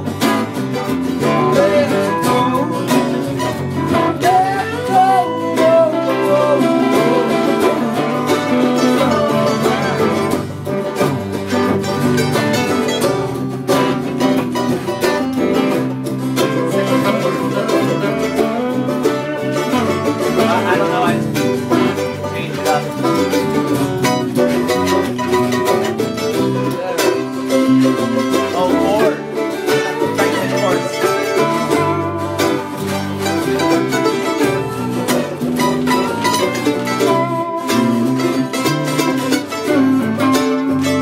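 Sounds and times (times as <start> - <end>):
band jamming with guitar: 0.0 - 41.0.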